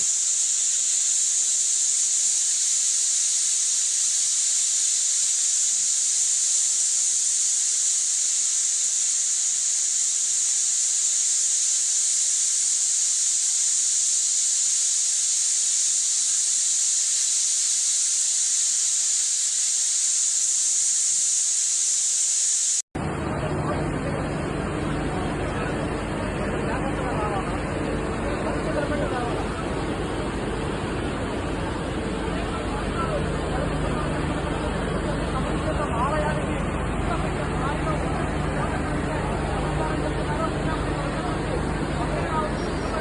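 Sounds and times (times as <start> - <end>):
steady high-pitched hiss: 0.0 - 43.0.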